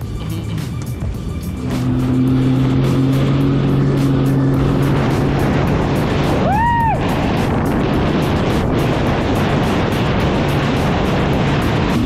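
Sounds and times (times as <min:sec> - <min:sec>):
jet ski engine drone: 0:00.0 - 0:12.0
rising and falling tone: 0:00.0 - 0:12.0
wind and water spray: 0:00.0 - 0:12.0.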